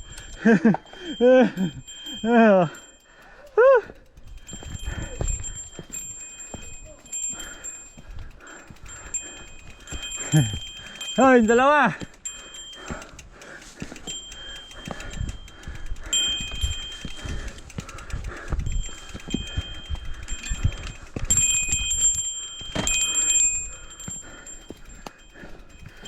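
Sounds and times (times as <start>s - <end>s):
bike rumbling over rough trail: 0.0s - 26.0s.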